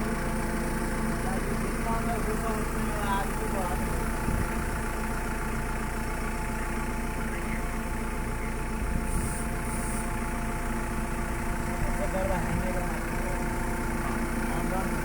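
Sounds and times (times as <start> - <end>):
diesel engine running steadily: 0.0 - 15.0.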